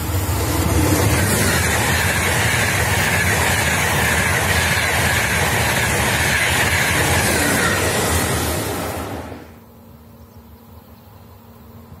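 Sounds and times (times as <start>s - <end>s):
high-speed train passing: 0.0s - 10.1s.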